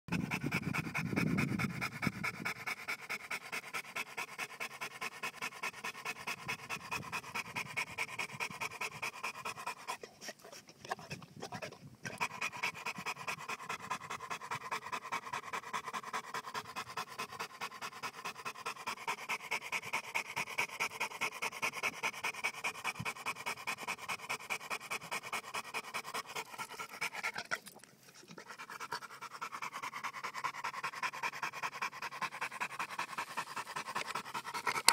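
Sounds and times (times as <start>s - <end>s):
dog panting: 0.1s - 34.9s.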